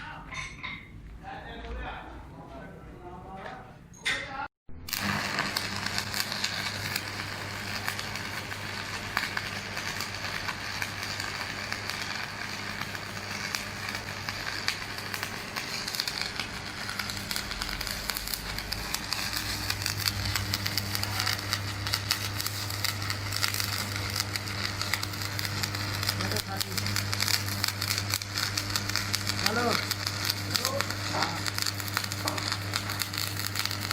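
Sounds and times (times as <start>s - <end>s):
welding arc crackling: 4.8s - 33.9s
welding machine electrical hum: 4.8s - 33.9s.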